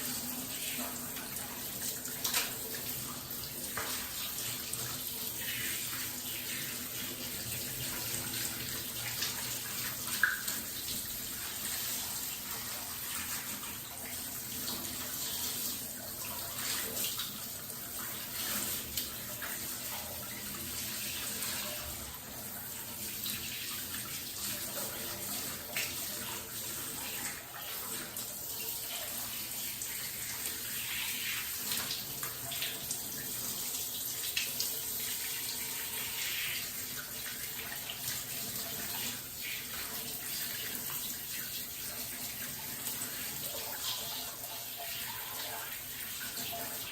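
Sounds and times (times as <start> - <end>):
tap water running and splashing: 0.0 - 46.9.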